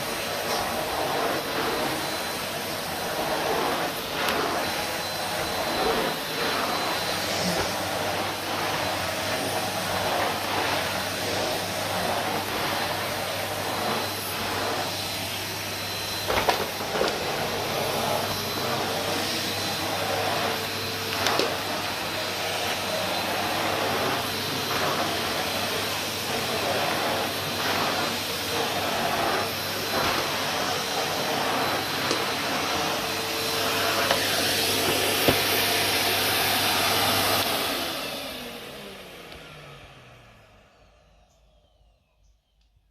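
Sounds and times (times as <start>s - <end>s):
vacuum cleaner running: 0.0s - 42.6s.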